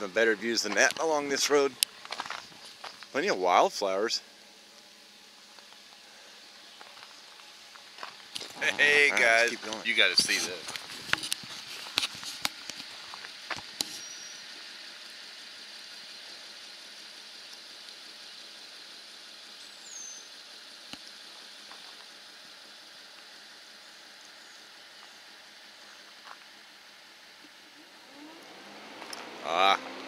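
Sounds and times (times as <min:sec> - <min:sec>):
high outdoor hiss: 0:00.0 - 0:30.0.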